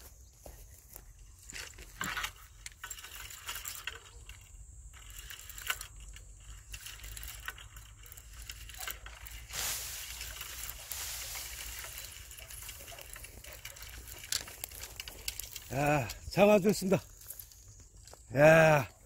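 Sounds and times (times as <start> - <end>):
fishing tackle clicking and rattling: 1.6 - 19.0.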